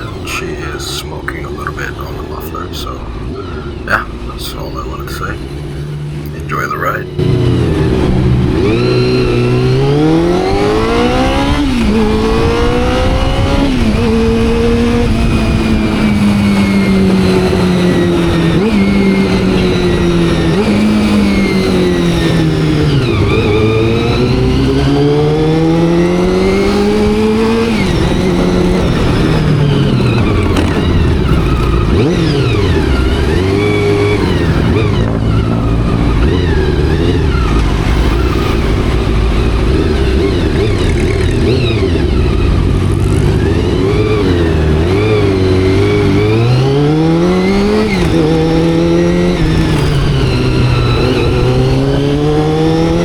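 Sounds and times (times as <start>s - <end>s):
motorcycle engine revving: 0.0s - 53.0s
wind and road noise: 0.0s - 53.0s.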